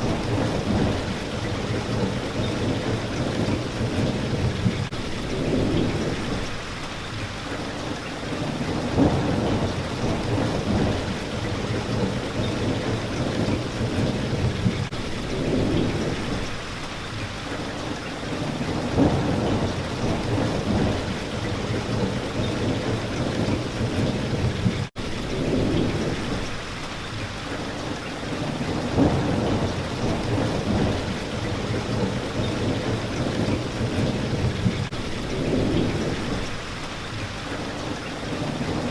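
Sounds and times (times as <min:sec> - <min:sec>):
low thunder rumbling: 0:00.0 - 0:06.7, 0:08.2 - 0:16.6, 0:18.3 - 0:26.6, 0:28.3 - 0:37.0
rain pattering on a window: 0:00.0 - 0:38.9.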